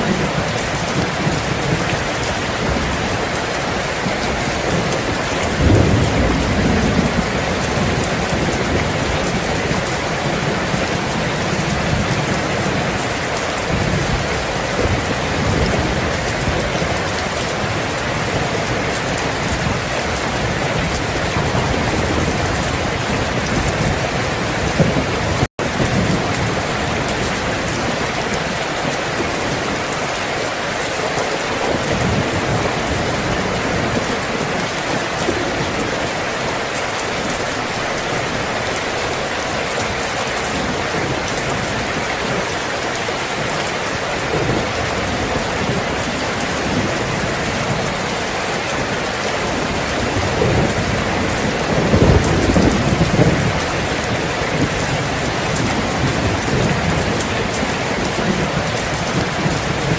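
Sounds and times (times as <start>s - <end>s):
heavy rain falling: 0.0s - 59.9s
thunder rumbling: 0.0s - 59.9s.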